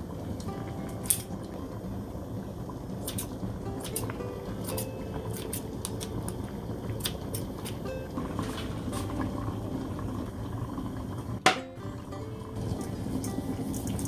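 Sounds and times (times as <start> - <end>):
food bubbling on stove: 0.0 - 14.0.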